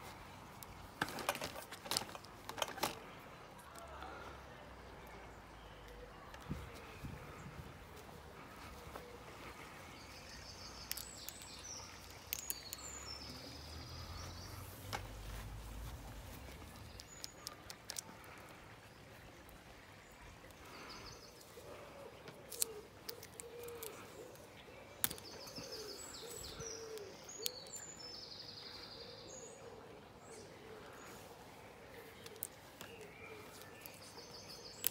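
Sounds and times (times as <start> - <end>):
birds singing: 0.6 - 34.9.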